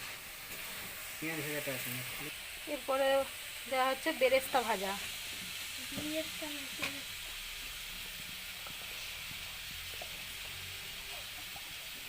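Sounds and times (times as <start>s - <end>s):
food sizzling on stove: 0.0s - 12.0s.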